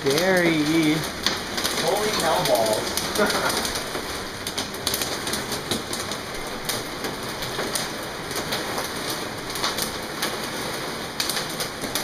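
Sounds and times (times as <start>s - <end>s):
hailstones ticking on skylight: 0.0s - 12.0s
heavy rain on skylight: 0.0s - 12.0s.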